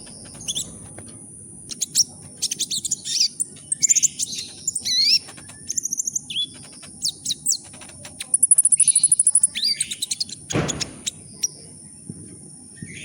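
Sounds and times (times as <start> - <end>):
sunbird singing high chirps: 0.0 - 1.0, 1.6 - 11.7.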